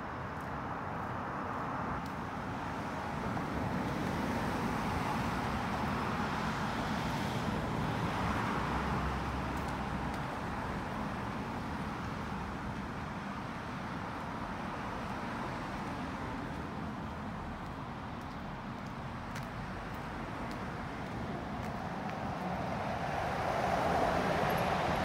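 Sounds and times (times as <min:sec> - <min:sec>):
car passing on road: 0:00.6 - 0:25.0.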